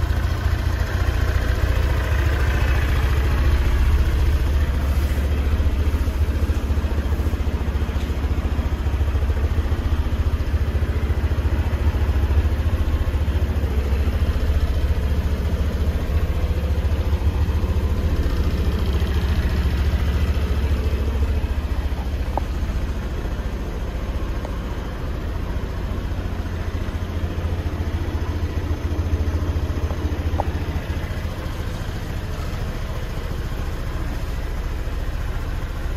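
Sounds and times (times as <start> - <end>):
scooter engine idling: 0.0 - 35.9.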